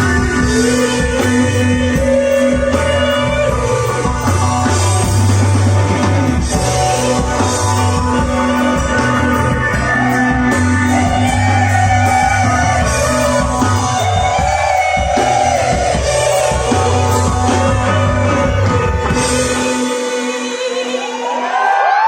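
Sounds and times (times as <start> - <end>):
bass guitar: 0.0 - 22.0
drums: 0.0 - 22.0
electric guitar: 0.0 - 22.0
person singing: 0.0 - 22.0.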